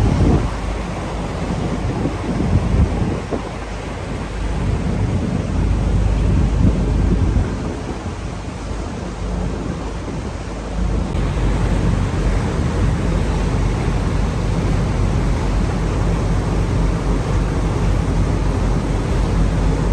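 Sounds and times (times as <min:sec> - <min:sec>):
boat engine rumble: 0:00.0 - 0:19.9
water: 0:00.0 - 0:19.9
wind buffeting microphone: 0:00.0 - 0:19.9.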